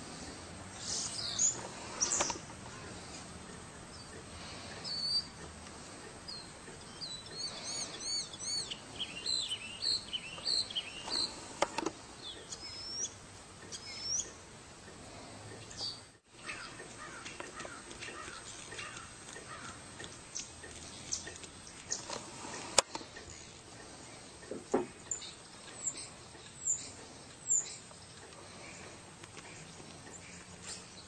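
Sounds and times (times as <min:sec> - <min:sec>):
small birds chirping: 0:00.1 - 0:31.0.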